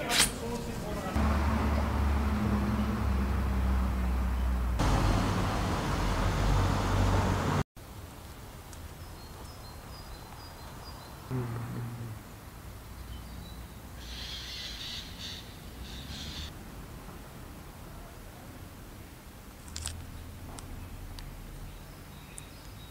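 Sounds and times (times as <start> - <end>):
street traffic hum: 0.0 - 22.9.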